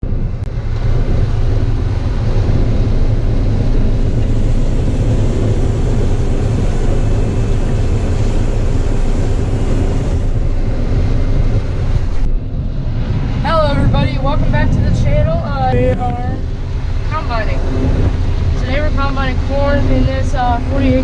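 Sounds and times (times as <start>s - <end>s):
combine harvester rumbling: 0.0s - 21.0s.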